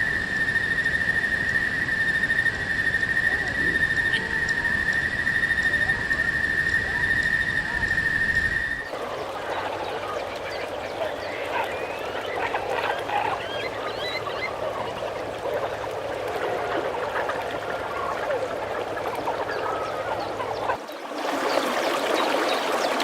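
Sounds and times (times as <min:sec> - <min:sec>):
high-pitched whine: 0:00.0 - 0:20.8
chorus of animal calls: 0:00.0 - 0:23.0.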